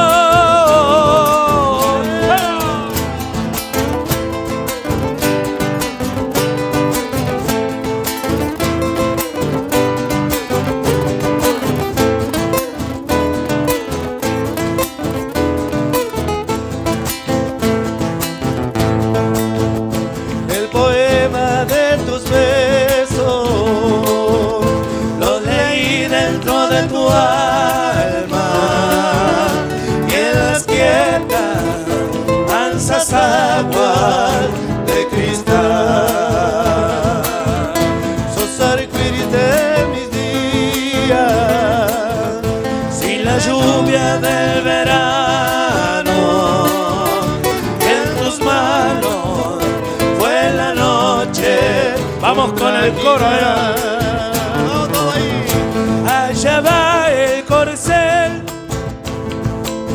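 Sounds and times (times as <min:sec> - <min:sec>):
men singing with vibrato: 0:00.0 - 0:14.8, 0:19.6 - 0:58.9
strummed acoustic guitars: 0:00.0 - 0:59.9.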